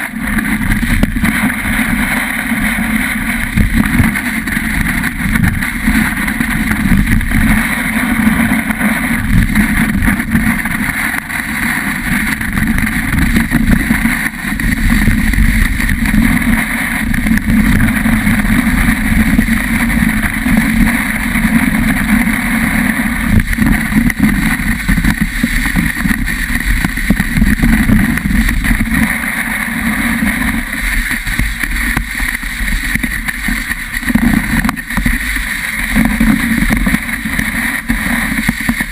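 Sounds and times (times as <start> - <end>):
ski sliding on snow: 0.0 - 38.9
wind rushing: 0.0 - 38.9.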